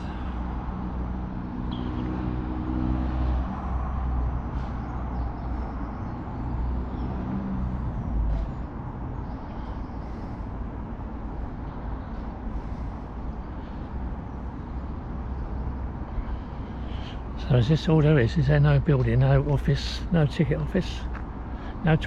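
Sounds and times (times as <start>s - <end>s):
engine hum: 0.0s - 22.0s
passing vehicles rumbling: 0.0s - 22.0s.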